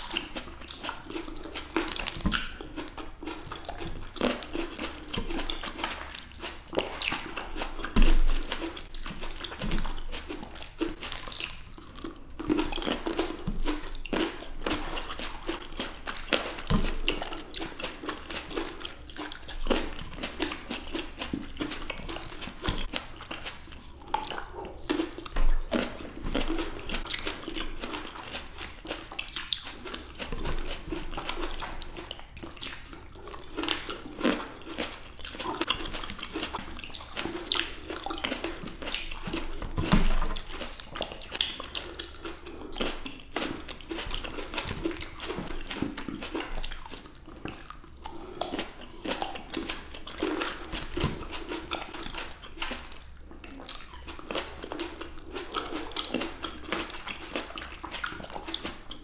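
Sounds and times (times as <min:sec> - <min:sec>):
grapes being bitten and chewed: 0:00.0 - 0:59.0.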